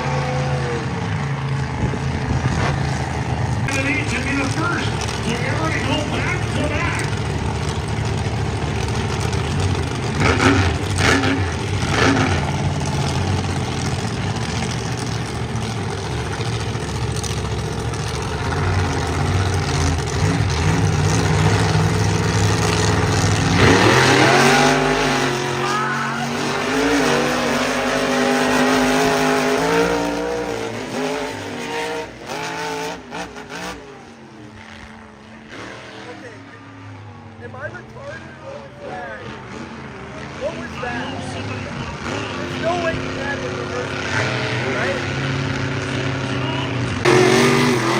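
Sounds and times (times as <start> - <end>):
truck engines revving: 0.0 - 47.9.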